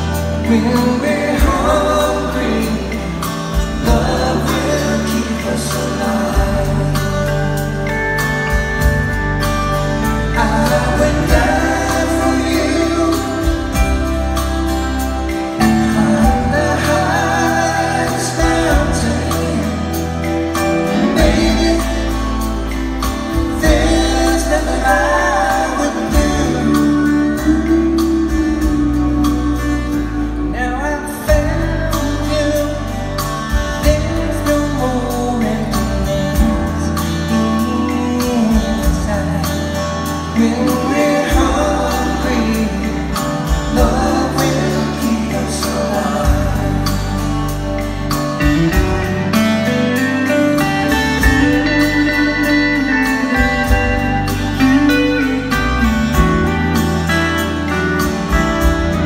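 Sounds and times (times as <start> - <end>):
live soft rock band: 0.0 - 59.0.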